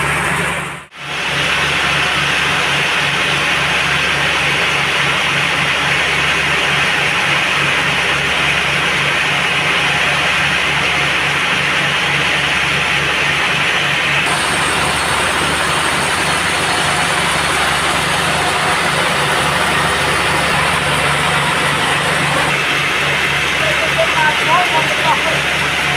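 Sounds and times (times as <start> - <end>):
band sawmill running: 0.0 - 25.9.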